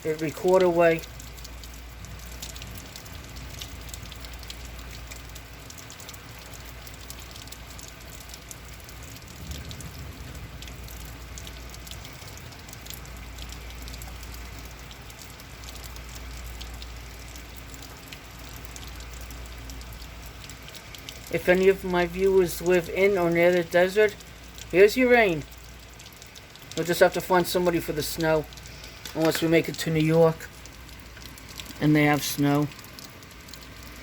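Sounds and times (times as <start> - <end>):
heavy rain: 0.0 - 34.0
raindrops pattering on surfaces: 0.0 - 34.0.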